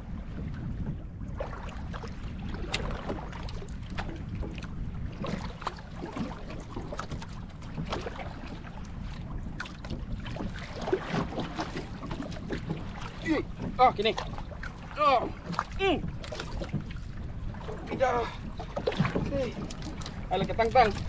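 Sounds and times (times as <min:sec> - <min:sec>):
water splashing against boat hull: 0:00.0 - 0:21.0
wind rumble on microphone: 0:00.0 - 0:21.0.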